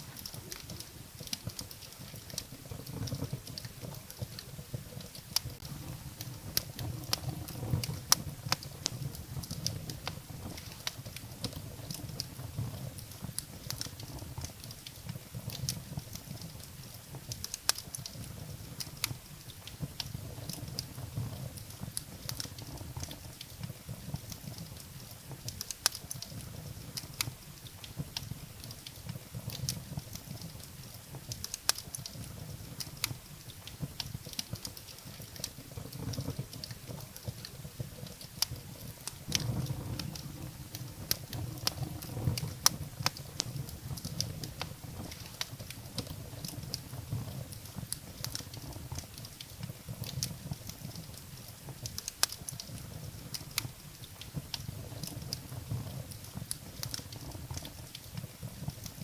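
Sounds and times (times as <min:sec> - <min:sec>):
firewood crackling and popping: 0:00.0 - 0:59.0
low rumble of flames: 0:00.0 - 0:59.0.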